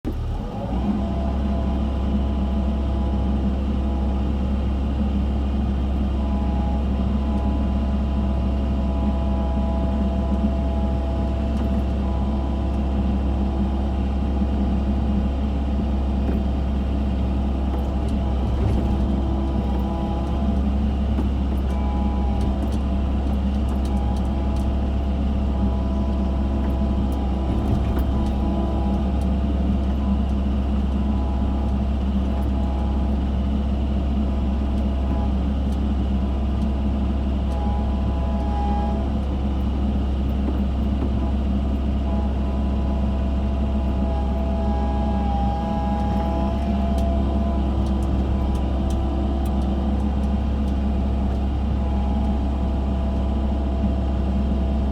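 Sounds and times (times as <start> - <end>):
excavator diesel engine drone: 0.0 - 54.9.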